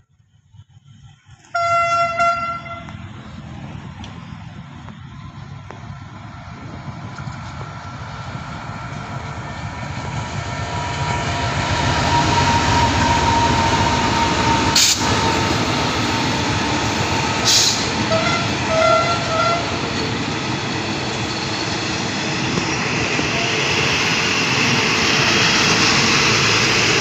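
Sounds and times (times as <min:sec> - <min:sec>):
diesel locomotive running: 0:00.0 - 0:27.0.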